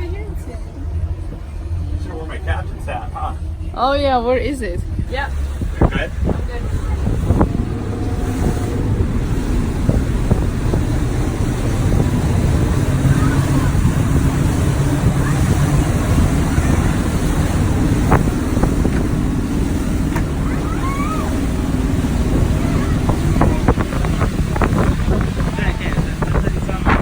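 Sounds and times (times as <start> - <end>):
motorboat engine rumbling: 0.0 - 27.0
water wash: 0.0 - 27.0
wind buffeting microphone: 0.0 - 27.0.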